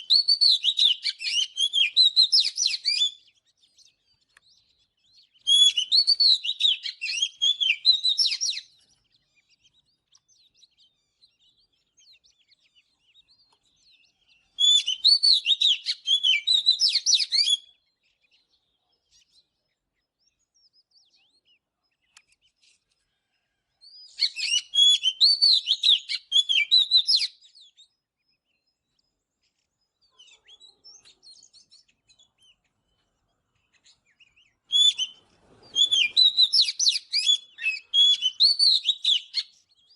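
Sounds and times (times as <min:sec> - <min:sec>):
bird singing whistles and chirps: 0:00.0 - 0:22.8, 0:23.8 - 0:39.9
faint soft bird notes: 0:00.0 - 0:39.9.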